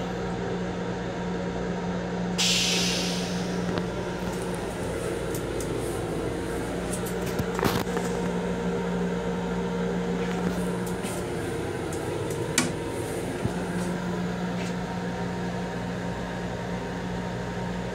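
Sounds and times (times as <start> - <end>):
railcar equipment humming: 0.0 - 17.9.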